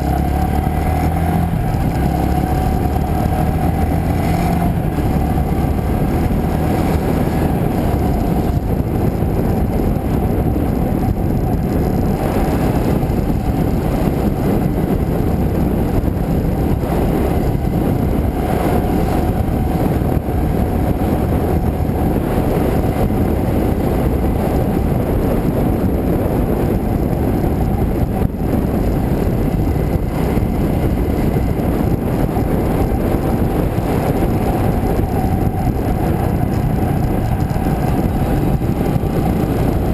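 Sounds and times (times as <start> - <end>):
motorbike engine drone: 0.0 - 39.9
wind noise on microphone: 0.0 - 39.9.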